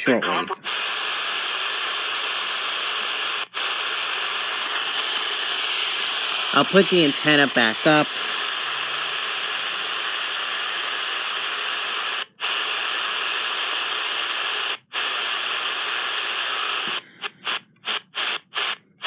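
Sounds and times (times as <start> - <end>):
radio static hiss: 0.0 - 18.8.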